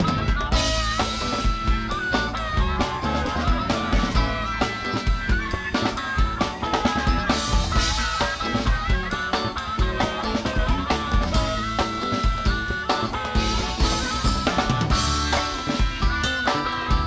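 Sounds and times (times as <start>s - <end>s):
bass drum and snare beat: 0.0s - 17.0s
electric bass: 0.0s - 17.0s
funk band playing: 0.0s - 17.0s.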